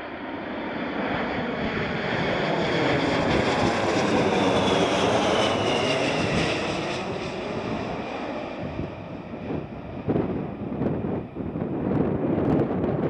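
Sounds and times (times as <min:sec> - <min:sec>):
jet airliner passing overhead: 0:00.0 - 0:13.0.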